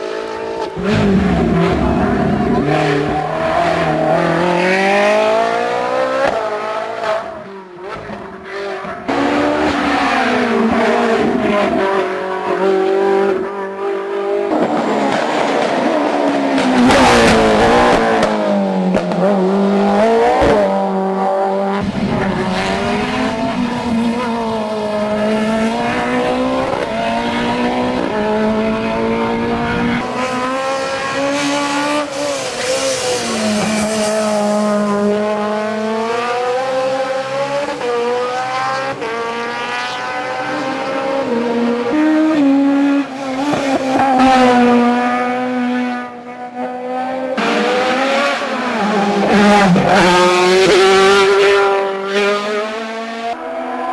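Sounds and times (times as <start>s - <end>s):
racing car engines revving: 0.0s - 53.9s.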